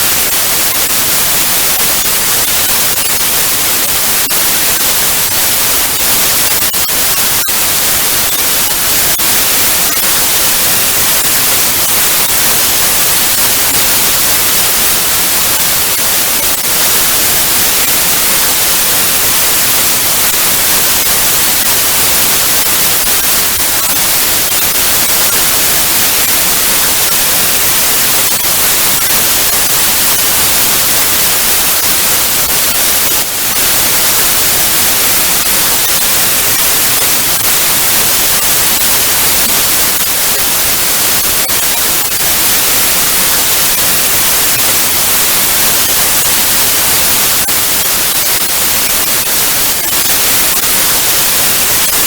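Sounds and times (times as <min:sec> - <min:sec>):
tv static hiss: 0:00.0 - 0:52.0.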